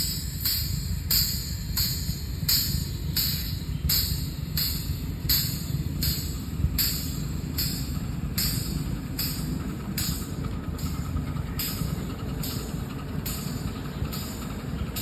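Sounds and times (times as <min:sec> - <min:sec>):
steam locomotive chuffing: 0:00.0 - 0:15.0
wheels rumbling on rails: 0:00.0 - 0:15.0.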